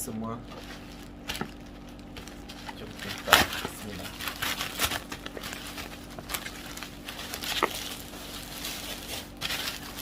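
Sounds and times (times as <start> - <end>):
plastic packaging rustling: 0.4 - 10.0.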